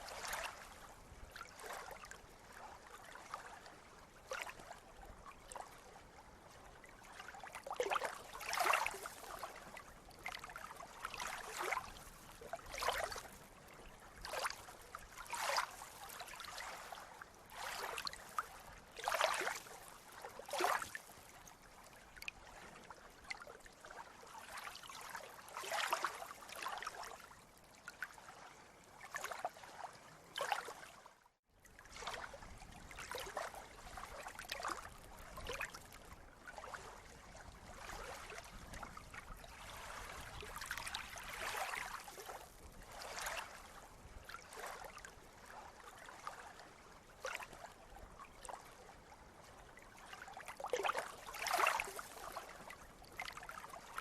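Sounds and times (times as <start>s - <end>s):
small waves lapping and splashing: 0.0s - 54.0s.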